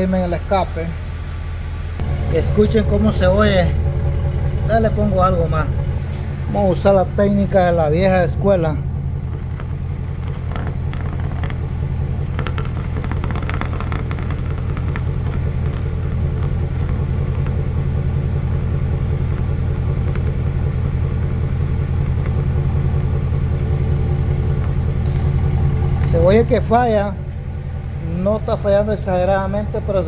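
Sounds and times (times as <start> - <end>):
engine exhaust idling: 0.0 - 30.0.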